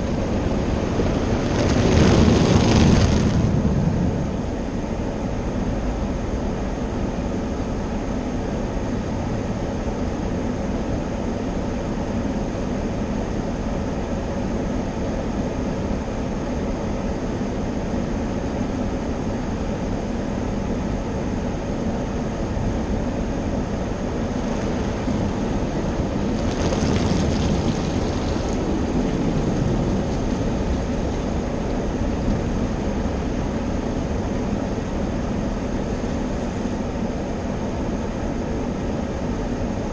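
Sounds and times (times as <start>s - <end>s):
car wash mechanical drone: 0.0s - 39.9s.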